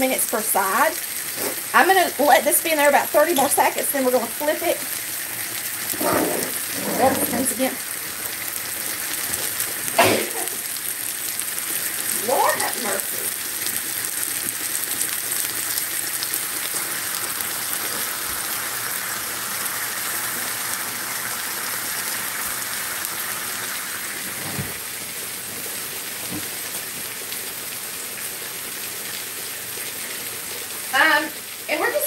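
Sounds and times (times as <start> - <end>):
steak sizzling in hot oil: 0.0 - 32.0.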